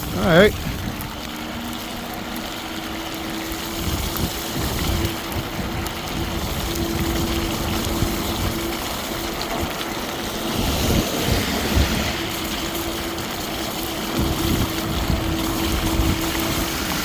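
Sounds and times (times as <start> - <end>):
tyres rumbling on snow: 0.0 - 17.0
wind rush on microphone: 0.0 - 17.0.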